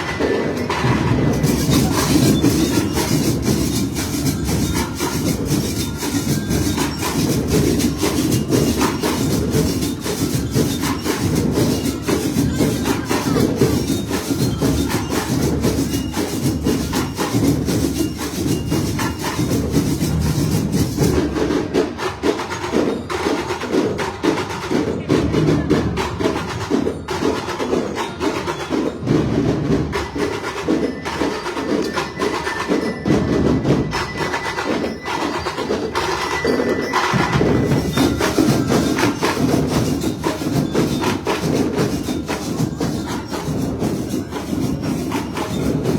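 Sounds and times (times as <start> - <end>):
parade percussion music: 0.0 - 45.9.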